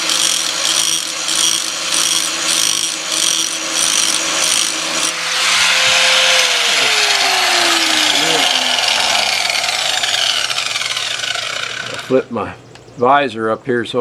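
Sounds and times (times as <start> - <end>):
electric grinder grinding metal blade: 0.0 - 12.2.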